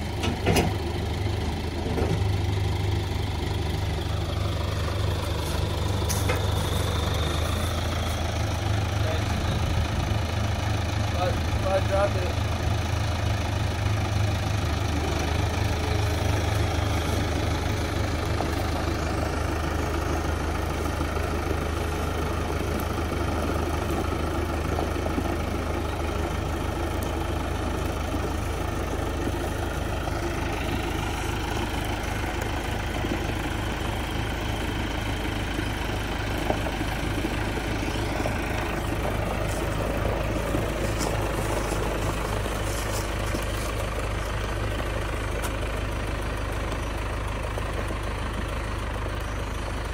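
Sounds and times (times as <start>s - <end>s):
diesel tractor engine idling: 0.0s - 49.9s.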